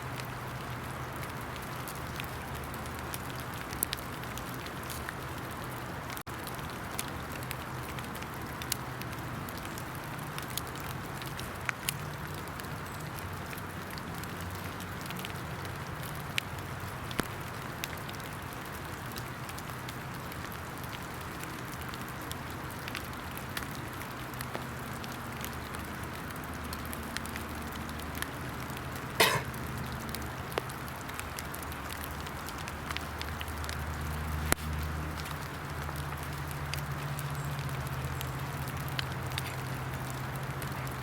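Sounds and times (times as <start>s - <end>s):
steady rain in woods: 0.0s - 41.0s
water drips: 0.0s - 41.0s.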